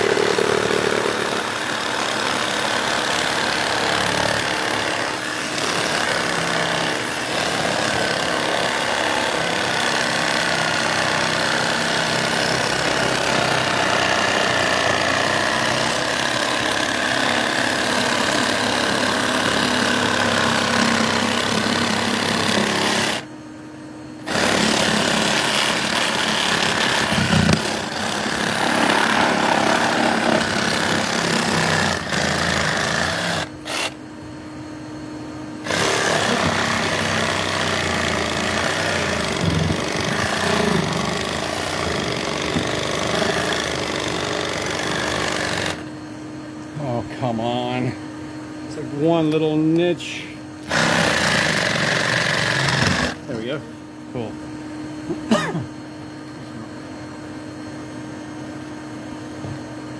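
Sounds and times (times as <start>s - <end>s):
small motor running loudly: 0.0s - 59.9s.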